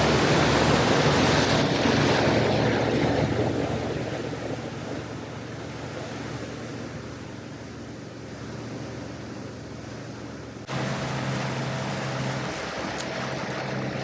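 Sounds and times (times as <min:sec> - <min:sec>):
boat engine hum: 0:00.0 - 0:14.0
water noise: 0:00.0 - 0:14.0
wind: 0:00.0 - 0:14.0.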